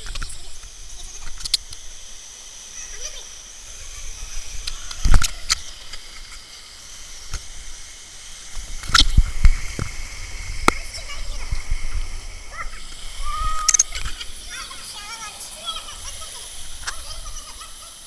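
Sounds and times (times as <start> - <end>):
stream rushing: 1.6 - 18.0.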